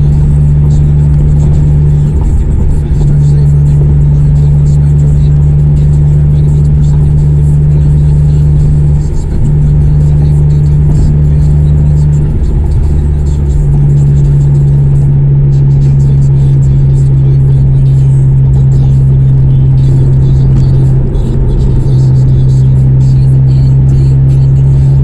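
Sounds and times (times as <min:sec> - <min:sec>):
car exhaust loud low drone: 0:00.0 - 0:25.0.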